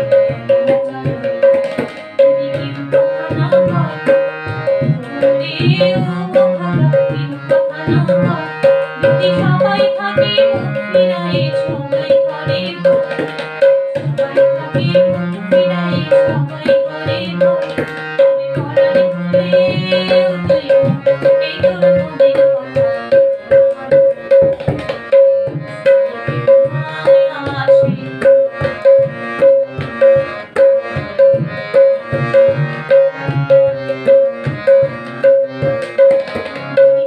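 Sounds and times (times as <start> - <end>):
tabla ringing strokes: 0.0 - 37.0.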